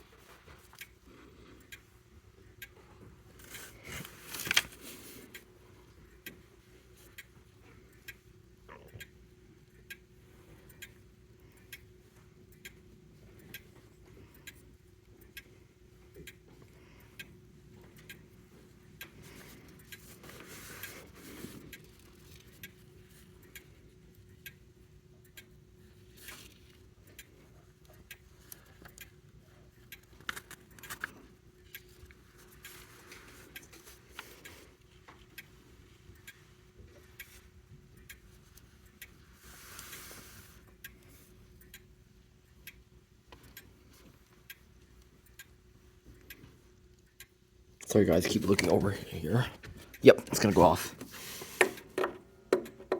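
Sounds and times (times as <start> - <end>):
clock ticking: 0.0 - 52.9
faint steady hum: 0.0 - 52.9.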